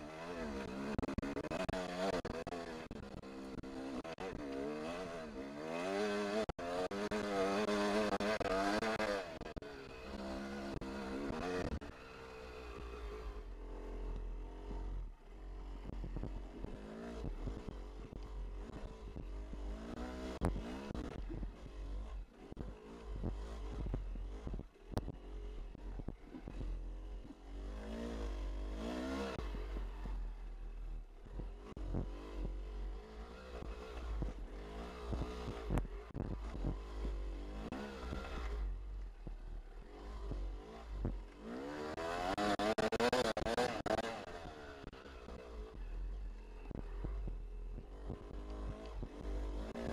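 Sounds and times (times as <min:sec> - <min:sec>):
dirt bike engine revving: 0:00.0 - 0:30.6, 0:31.2 - 0:49.9.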